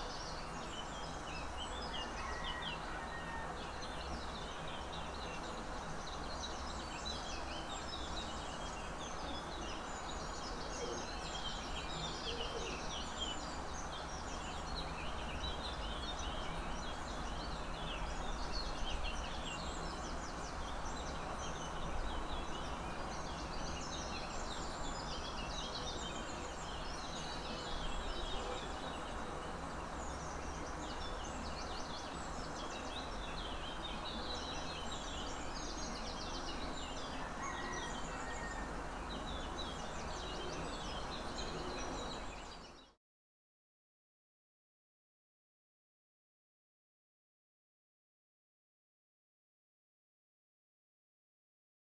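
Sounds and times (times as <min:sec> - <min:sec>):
steady background noise: 0:00.0 - 0:42.9
small birds chirping: 0:00.0 - 0:43.0.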